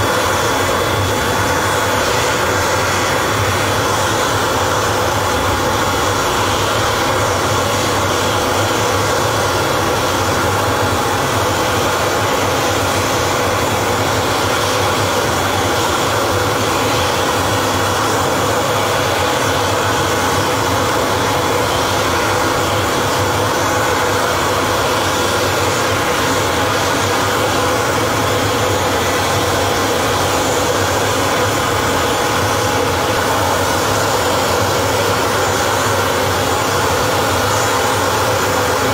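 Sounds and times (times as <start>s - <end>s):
aircraft engine roaring: 0.0s - 38.9s.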